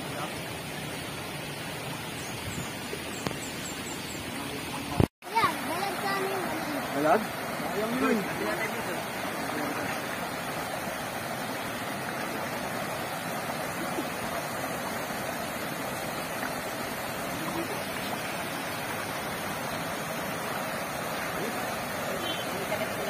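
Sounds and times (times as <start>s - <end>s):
stream water rushing over rocks: 0.0s - 23.0s.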